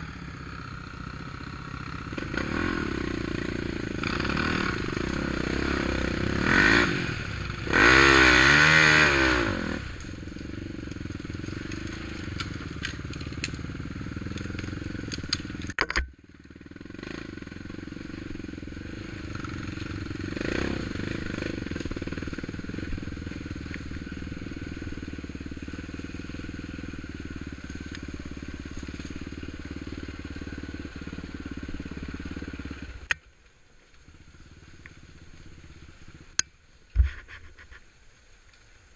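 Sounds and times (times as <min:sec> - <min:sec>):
atv engine running: 0:00.0 - 0:38.4.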